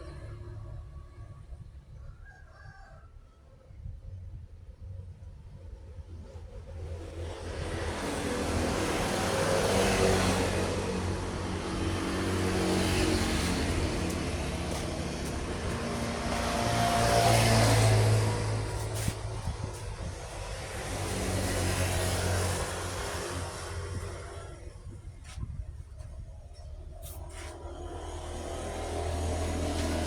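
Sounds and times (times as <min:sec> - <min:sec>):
road traffic passing: 0:00.0 - 0:01.7, 0:05.7 - 0:30.0
low engine hum: 0:04.3 - 0:30.0.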